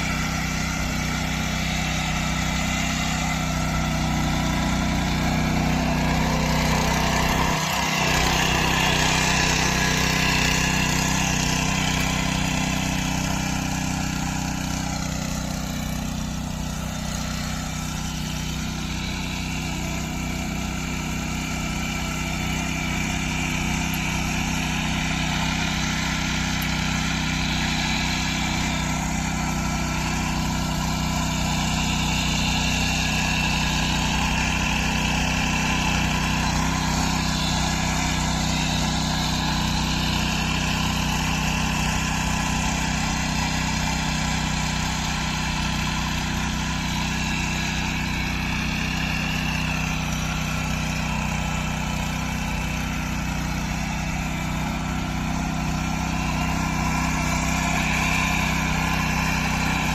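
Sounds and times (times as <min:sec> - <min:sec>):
rotary tines tilling soil: 0:00.0 - 0:59.9
small engine running: 0:00.0 - 0:59.9.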